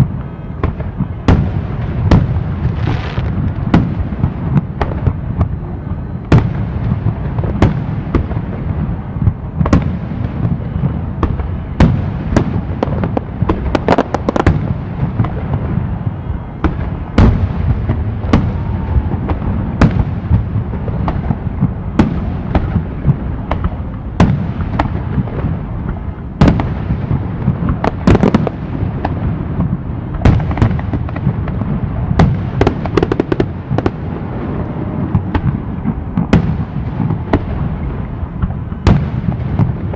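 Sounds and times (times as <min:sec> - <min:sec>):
low rumble of booms: 0:00.0 - 0:39.9.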